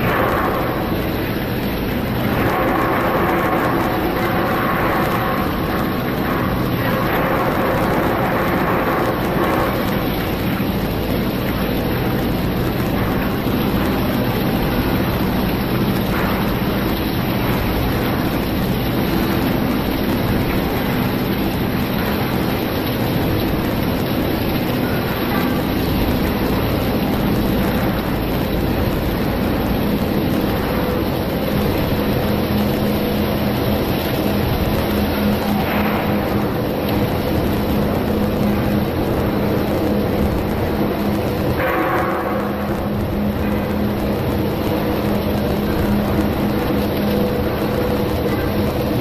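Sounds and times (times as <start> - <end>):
industrial machinery running: 0.0 - 49.0.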